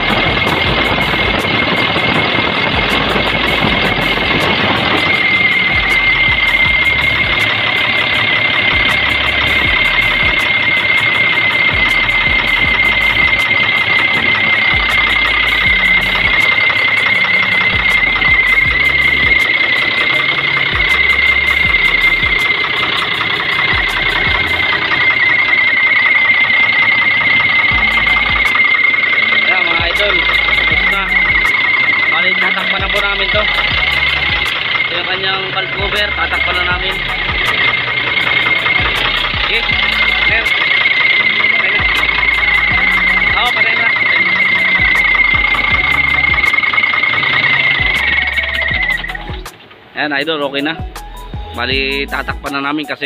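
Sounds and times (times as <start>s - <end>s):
engine running: 0.0s - 53.0s
steady high whine: 0.0s - 53.0s.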